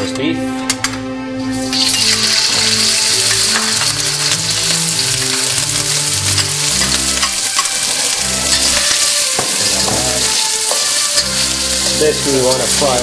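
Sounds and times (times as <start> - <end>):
meat sizzling in hot oil: 1.6 - 13.0.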